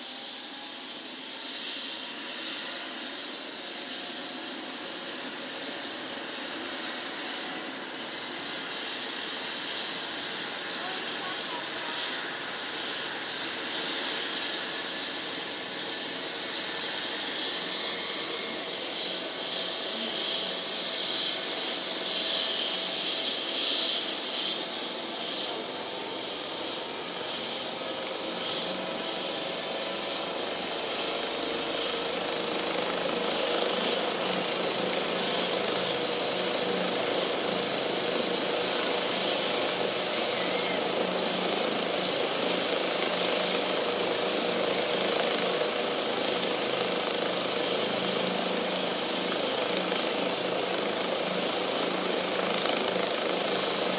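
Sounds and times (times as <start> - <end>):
helicopter turbine and rotor: 0.0 - 53.9.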